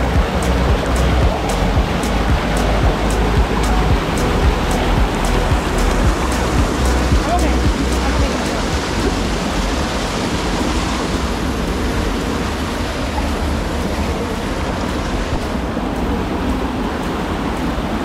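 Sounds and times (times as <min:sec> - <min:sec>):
river water rushing over boulders: 0:00.0 - 0:18.0.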